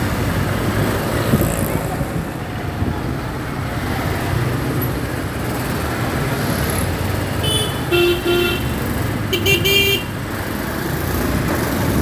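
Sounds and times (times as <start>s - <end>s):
road and traffic noise: 0.0s - 12.0s.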